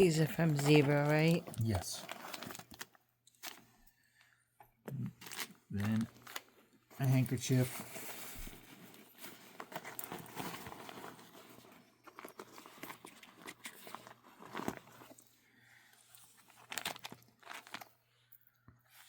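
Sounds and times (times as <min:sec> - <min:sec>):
bag rustling and crinkling: 0:00.0 - 0:03.6, 0:05.2 - 0:15.4, 0:16.0 - 0:18.0.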